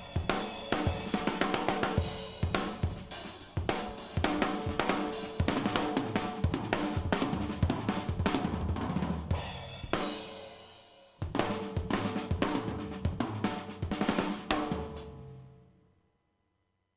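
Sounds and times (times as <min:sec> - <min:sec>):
drum kit playing a groove: 0:00.0 - 0:15.4.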